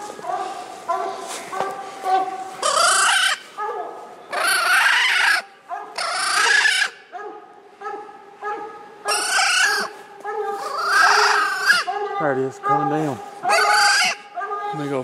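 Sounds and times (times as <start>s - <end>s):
quieter dog barking: 0.0s - 2.6s, 3.4s - 4.2s, 5.6s - 15.0s
dog barking loudly: 0.2s - 15.0s.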